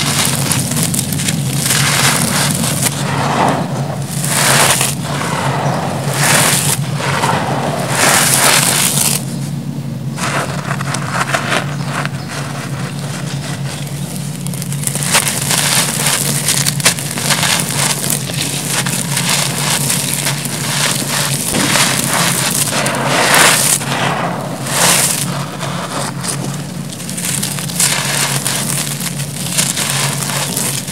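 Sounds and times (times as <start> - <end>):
hands crunching gravel and concrete: 0.0 - 9.6, 10.2 - 30.9
crumbs pouring hiss: 0.0 - 30.9.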